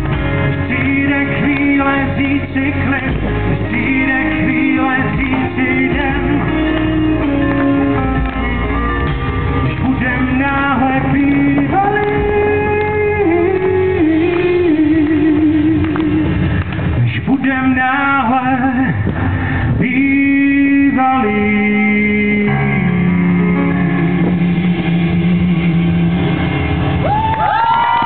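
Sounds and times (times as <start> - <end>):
man singing long notes: 0.0 - 16.4, 17.1 - 26.5
drums: 0.0 - 28.0
electric guitar: 0.0 - 28.0.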